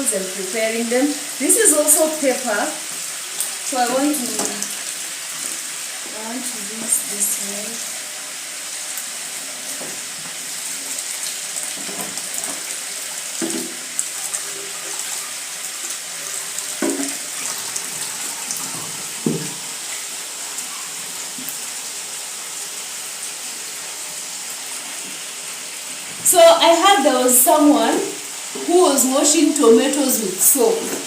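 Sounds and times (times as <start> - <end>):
tap water running: 0.0 - 31.0
chicken sizzling in oil: 0.2 - 26.1.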